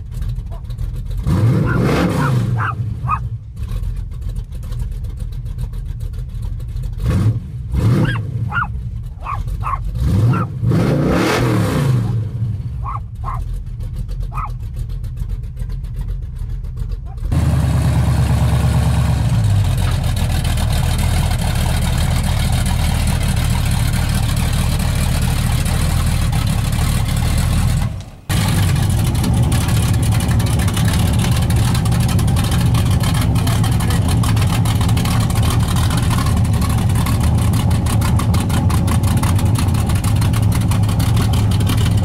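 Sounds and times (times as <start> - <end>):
lopey engine idling: 0.0 - 10.7, 12.0 - 42.0.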